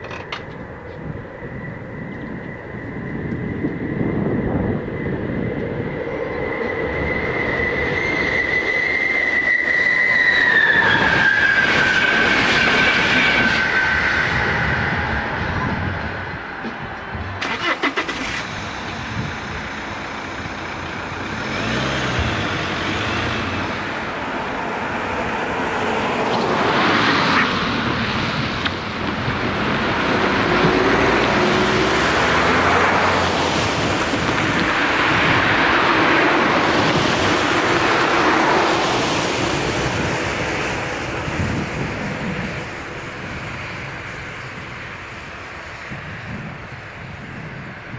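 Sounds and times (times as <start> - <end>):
cars driving past: 2.6 - 46.4.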